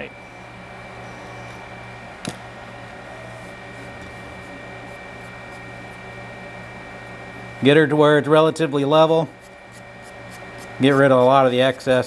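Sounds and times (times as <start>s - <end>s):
faint high whine: 0.0s - 12.0s
low mechanical hum: 0.0s - 12.0s.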